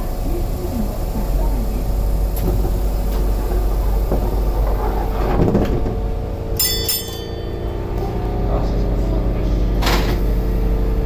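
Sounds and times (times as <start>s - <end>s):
tram door sliding shut: 1.7s - 10.7s.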